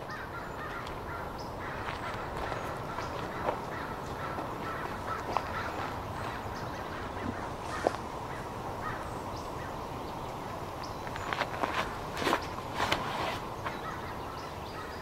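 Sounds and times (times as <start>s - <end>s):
background hiss: 0.0s - 15.0s
bird calls: 0.0s - 15.0s.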